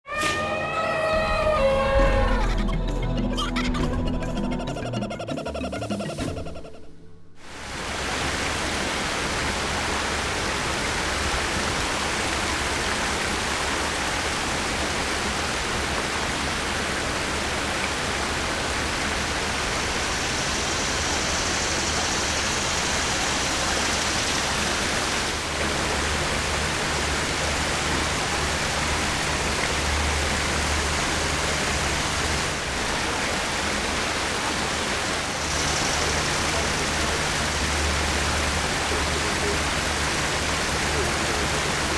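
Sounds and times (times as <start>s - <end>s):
flowing water rushing: 0.1s - 2.8s, 7.4s - 41.9s.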